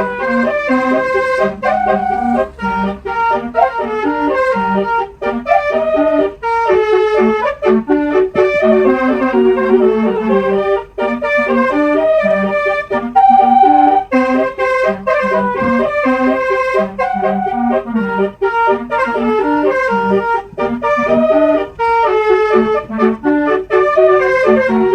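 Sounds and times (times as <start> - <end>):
musical air horn playing a tune: 0.0 - 24.9.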